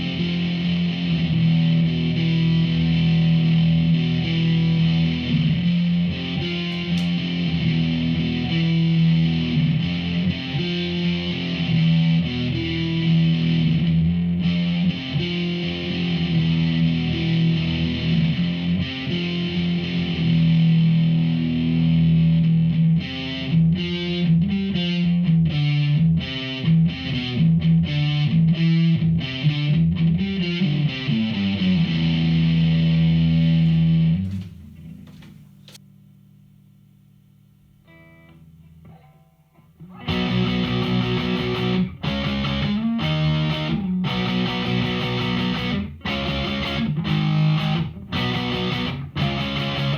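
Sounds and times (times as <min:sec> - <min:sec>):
distorted electric guitar: 0:00.0 - 0:35.8, 0:37.8 - 0:49.9.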